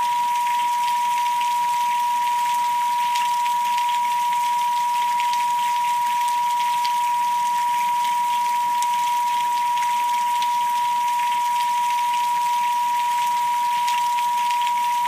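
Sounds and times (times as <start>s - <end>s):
rain with crackly drops: 0.0s - 15.0s
steady pure tone: 0.0s - 15.0s.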